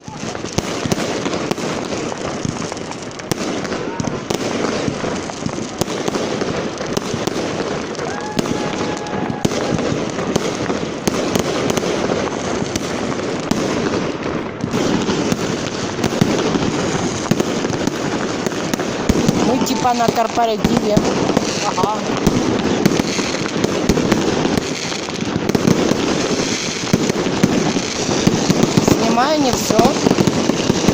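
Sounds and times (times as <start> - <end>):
fireworks crackling and popping: 0.0 - 30.9.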